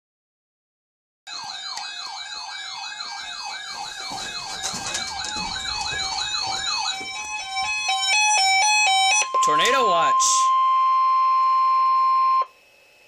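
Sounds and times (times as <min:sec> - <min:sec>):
electronic siren yelping: 0:01.3 - 0:12.5.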